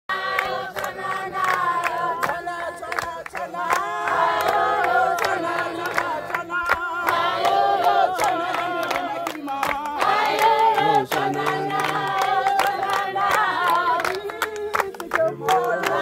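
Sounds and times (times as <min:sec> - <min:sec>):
group of people singing: 0:00.1 - 0:16.0
rhythmic hand clapping: 0:00.1 - 0:16.0.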